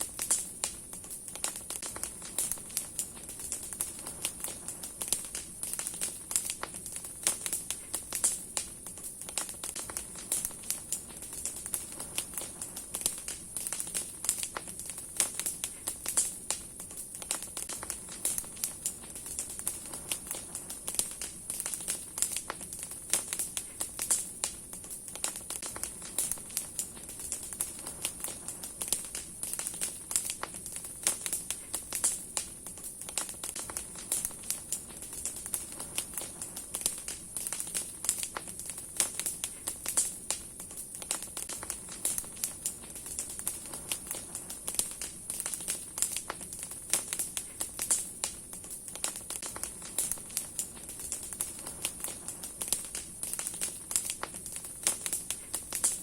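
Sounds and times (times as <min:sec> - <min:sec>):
hiss of flame: 0:00.0 - 0:56.0
wood fire crackling: 0:00.0 - 0:56.0.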